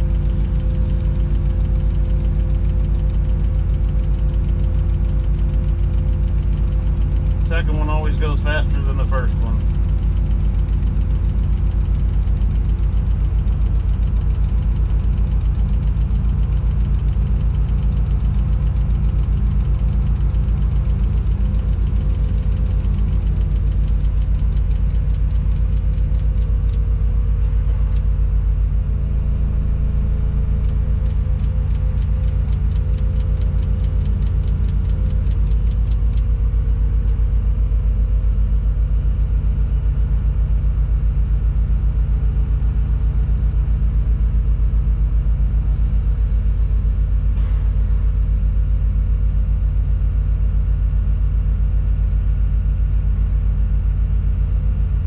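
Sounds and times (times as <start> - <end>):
crane diesel engine running: 0.0 - 55.0.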